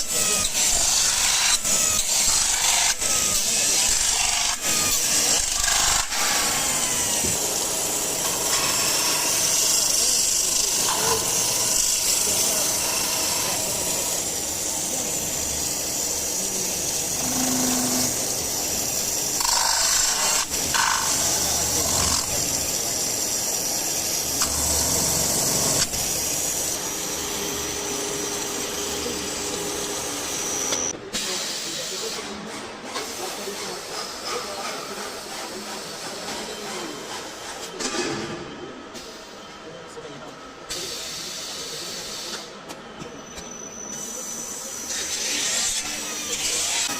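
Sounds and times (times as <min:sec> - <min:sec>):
steady machinery hiss: 0:00.0 - 0:37.8, 0:40.6 - 0:42.6, 0:43.8 - 0:46.9.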